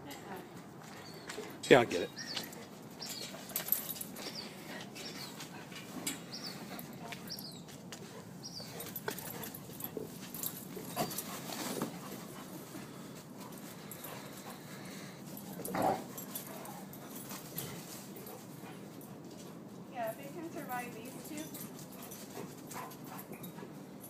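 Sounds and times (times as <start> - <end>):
dog noises: 0.3 - 19.7, 21.1 - 24.0.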